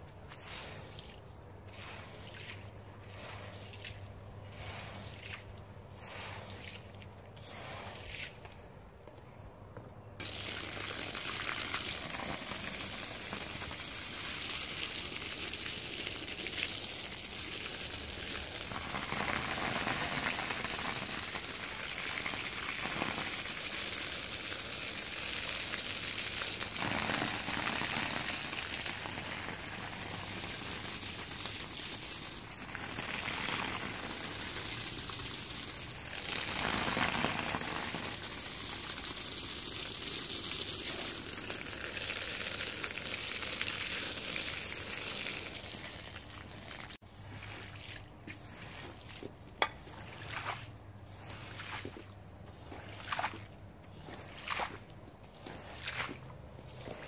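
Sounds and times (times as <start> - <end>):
water pouring onto a rug: 0.0 - 8.5, 10.2 - 57.0.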